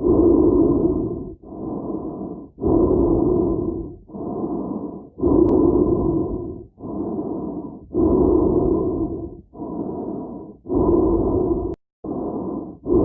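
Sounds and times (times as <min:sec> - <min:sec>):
muffled breathing inside a helmet: 0:00.0 - 0:13.0.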